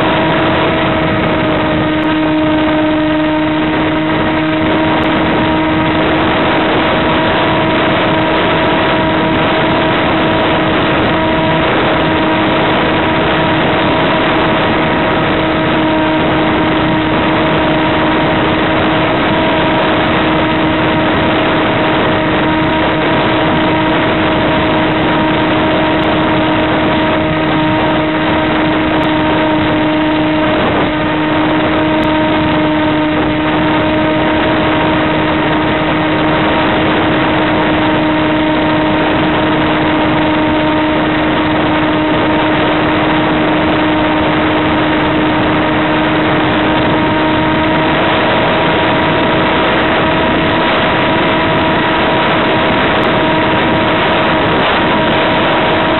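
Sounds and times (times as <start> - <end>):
electric motor propeller buzzing: 0.0 - 55.9
wind noise: 0.0 - 55.9.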